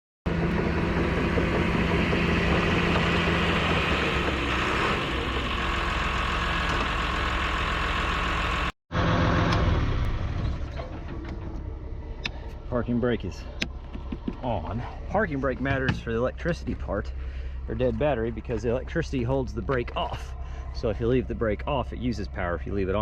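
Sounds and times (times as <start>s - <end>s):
diesel engine idling: 0.3s - 23.0s.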